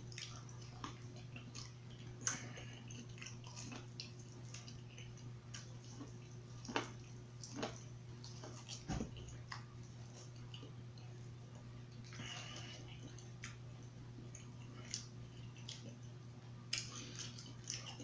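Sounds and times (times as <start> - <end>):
chewing and lip smacks: 0.0 - 18.0
steady low hum: 0.0 - 18.0.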